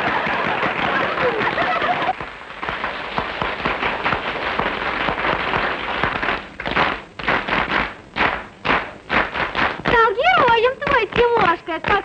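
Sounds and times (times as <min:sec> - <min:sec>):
crowd applauding: 0:00.0 - 0:09.9
rhythmic clapping in unison: 0:00.0 - 0:12.0.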